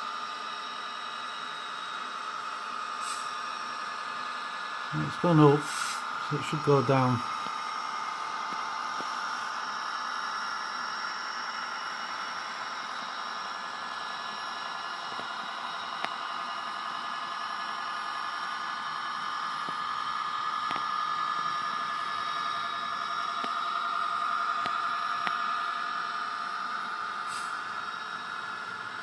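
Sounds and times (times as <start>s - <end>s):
model train motor whine: 0.0s - 29.0s.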